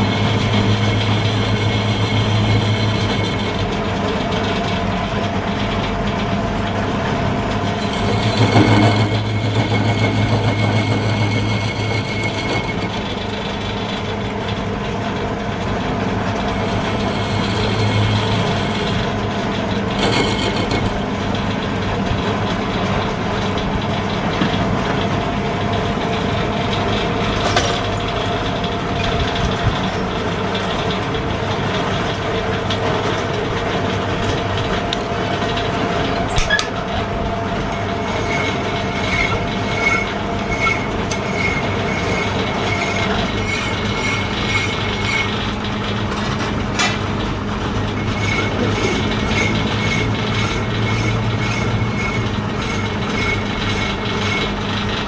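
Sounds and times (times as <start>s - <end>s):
machinery humming: 0.0s - 30.5s, 34.3s - 55.0s.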